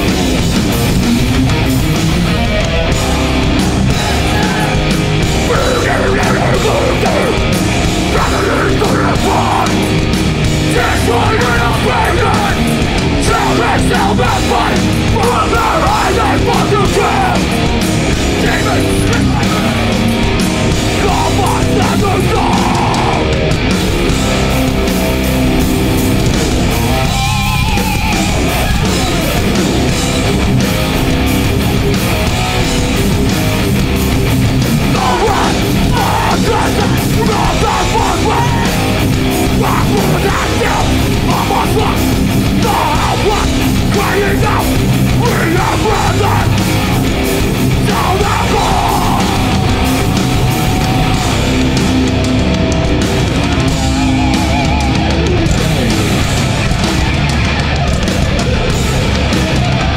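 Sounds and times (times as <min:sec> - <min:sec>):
live metal band playing: 0:00.0 - 0:59.9.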